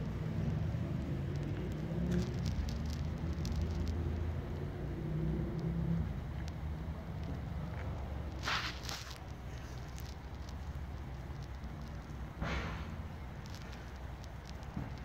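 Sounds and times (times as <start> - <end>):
faint ticks and rustles: 0.0 - 15.0
steady low rumble: 0.0 - 15.0.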